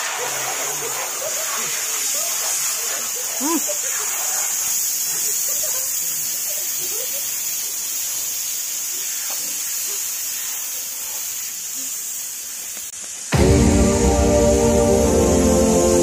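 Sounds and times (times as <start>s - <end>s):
aerosol spray cans hissing: 0.0s - 16.0s.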